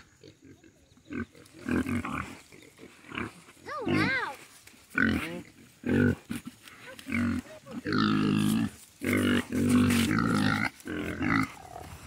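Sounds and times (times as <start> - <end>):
piglets grunting: 0.0 - 12.0.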